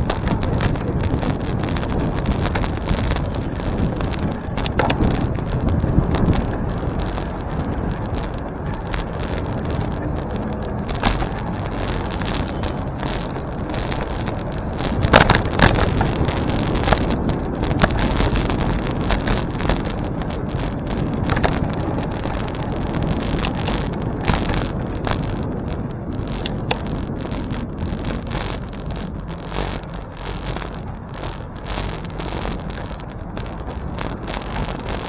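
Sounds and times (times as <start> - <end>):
bicycle rolling noise: 0.0 - 35.0
wind buffeting microphone: 0.0 - 35.0.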